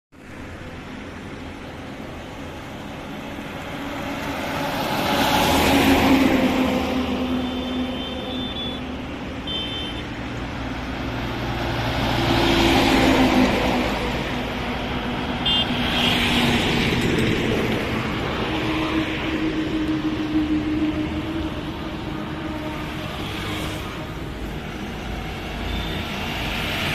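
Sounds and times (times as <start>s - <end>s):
highway traffic passing: 0.1s - 26.9s.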